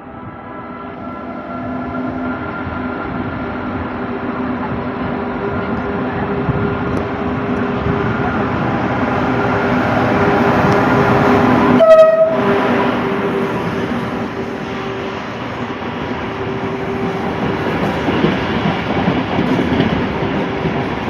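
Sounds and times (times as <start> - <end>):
train rumbling by: 0.0 - 21.0.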